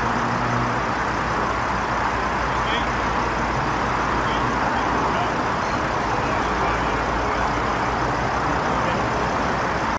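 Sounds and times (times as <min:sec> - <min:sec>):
vehicle and street noise: 0:00.0 - 0:09.9.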